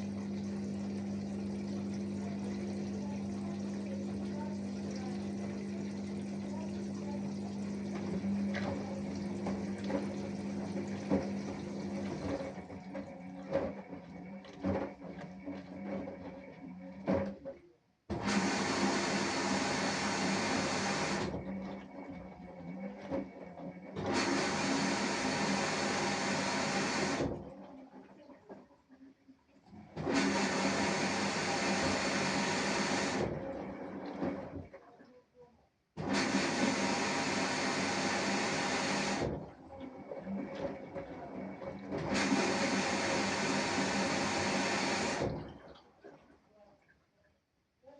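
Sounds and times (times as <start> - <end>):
washing machine pump hum: 0.0 - 28.9, 29.6 - 35.0, 36.0 - 46.9.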